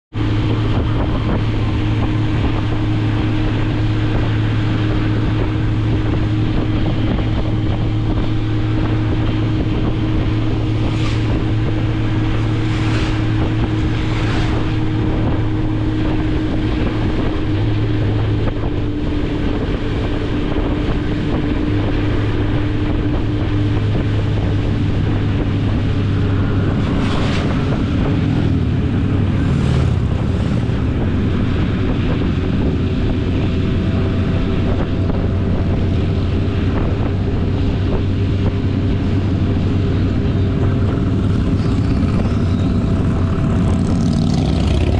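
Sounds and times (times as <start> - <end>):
motorcycle engine cruising: 0.1 - 44.9
wind rushing over microphone: 0.1 - 44.9.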